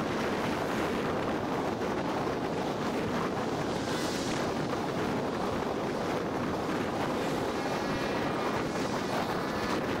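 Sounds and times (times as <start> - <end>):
rushing wind: 0.0 - 10.0
vehicle road noise: 0.0 - 10.0.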